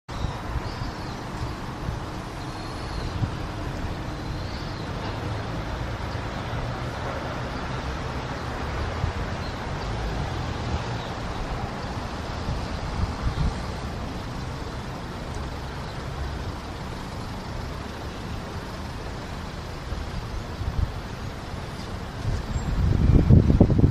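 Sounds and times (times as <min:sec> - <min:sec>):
city traffic rumble: 0:00.1 - 0:23.9.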